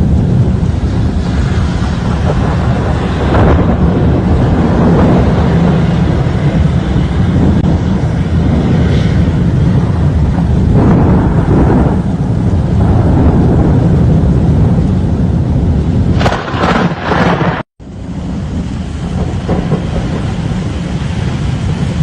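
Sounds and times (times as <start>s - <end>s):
storm wind buffeting microphone: 0.0s - 22.0s.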